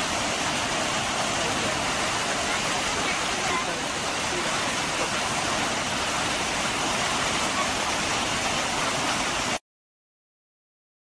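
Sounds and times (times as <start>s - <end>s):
waterfall roaring: 0.0s - 9.6s.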